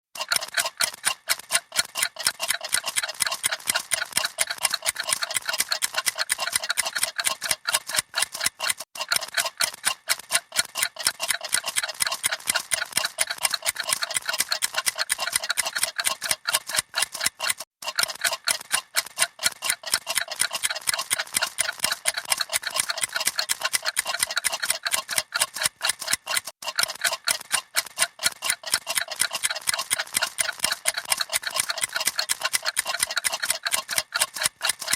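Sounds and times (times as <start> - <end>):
many clocks ticking: 0.2 - 34.9.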